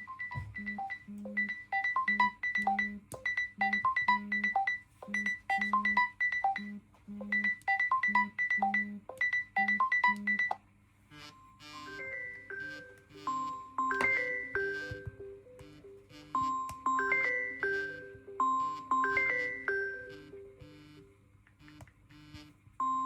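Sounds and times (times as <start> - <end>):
smartphone ringtone melody: 0.0 - 21.2.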